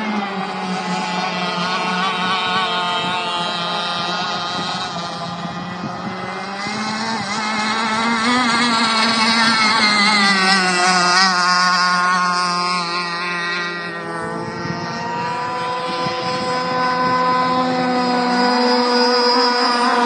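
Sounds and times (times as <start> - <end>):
model boat motor whine: 0.0 - 20.0.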